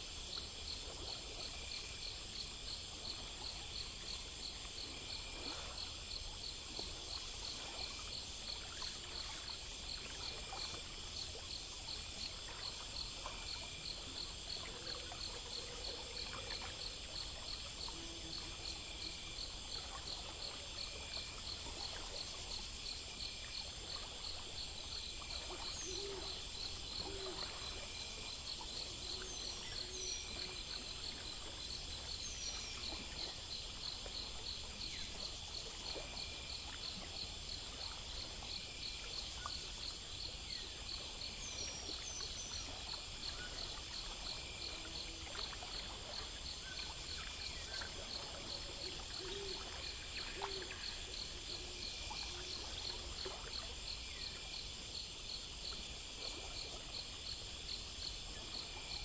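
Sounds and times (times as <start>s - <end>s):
crickets chirping: 0.0s - 59.0s
insects trilling: 0.0s - 59.0s.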